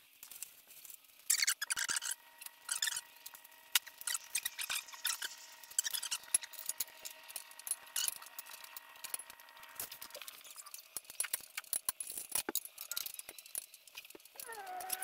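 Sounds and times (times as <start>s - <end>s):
hand tools and metal parts clinking: 0.2s - 15.0s.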